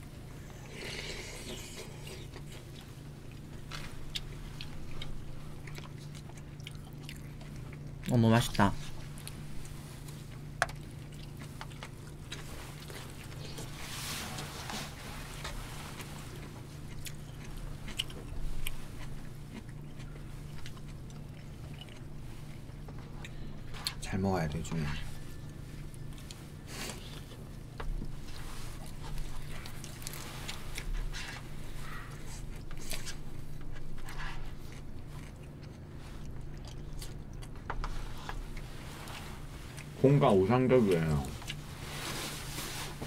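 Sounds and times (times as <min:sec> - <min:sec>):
people chewing: 0:00.1 - 0:43.0.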